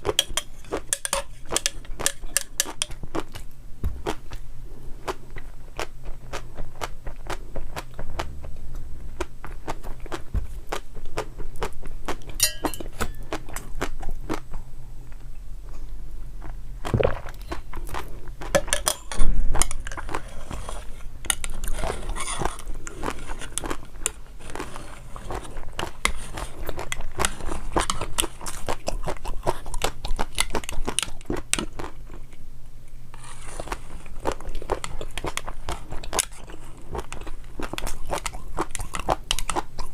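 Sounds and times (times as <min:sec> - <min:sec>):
chewing crisp food: 0:00.0 - 0:12.4, 0:13.0 - 0:32.4, 0:33.2 - 0:39.9.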